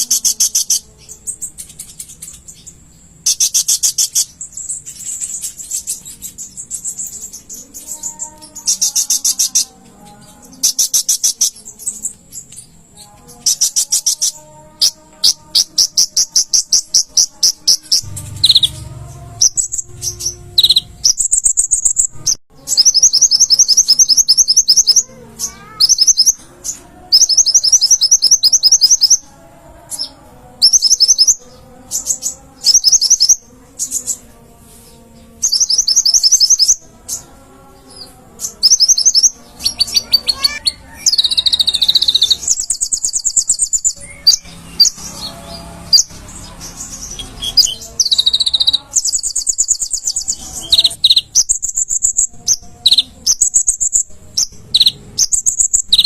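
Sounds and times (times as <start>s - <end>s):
songbird chirping trills: 0.0s - 56.0s.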